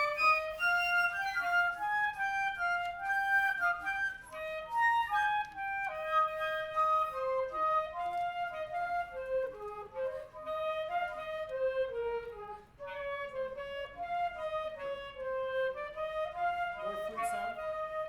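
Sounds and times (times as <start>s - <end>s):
wind band playing: 0.0s - 4.9s, 5.5s - 18.0s
flute and clarinet lines: 0.0s - 18.0s.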